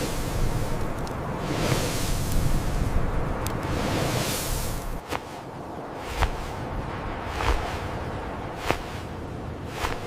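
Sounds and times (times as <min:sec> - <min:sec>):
gusting blizzard wind: 0:00.0 - 0:10.0
steady low rumble: 0:00.0 - 0:10.0.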